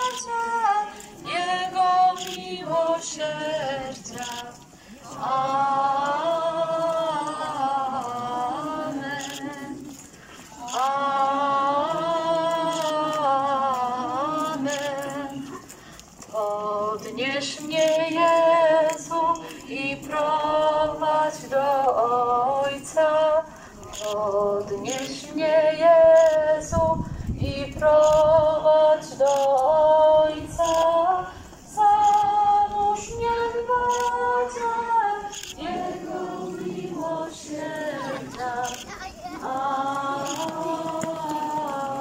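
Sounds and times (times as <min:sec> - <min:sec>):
group singing a hymn: 0:00.0 - 0:42.0.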